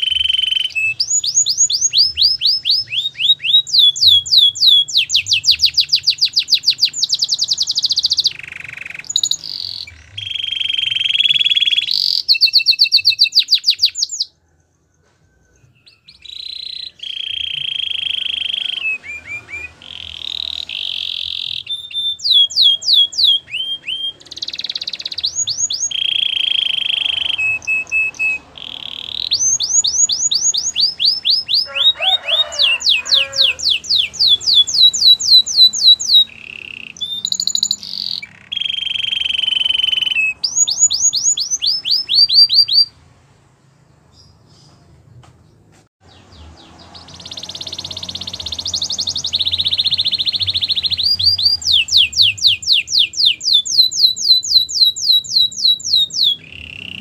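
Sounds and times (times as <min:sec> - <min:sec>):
canary singing: 0:00.0 - 0:43.1, 0:45.5 - 0:57.0.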